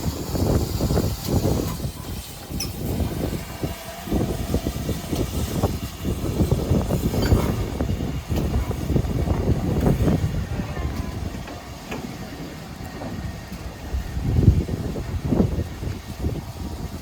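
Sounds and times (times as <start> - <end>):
train rumbling on track: 0.0 - 17.0
wheels clattering and knocking: 0.0 - 17.0.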